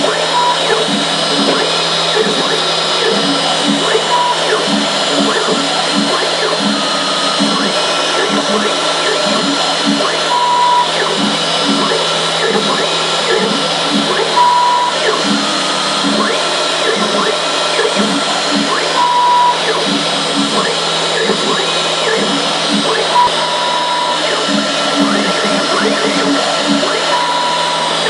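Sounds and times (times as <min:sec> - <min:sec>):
motors pulsing in pitch: 0:00.0 - 0:28.0
router spindle whine and hiss: 0:00.0 - 0:28.0.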